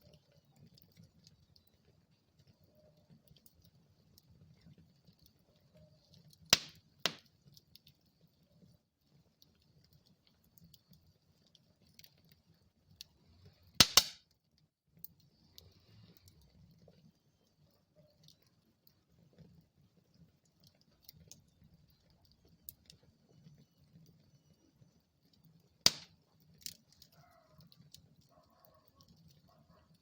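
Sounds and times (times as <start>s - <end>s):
burning wood popping: 0.0s - 14.2s, 15.0s - 30.0s
wood fire crackling: 0.0s - 30.0s.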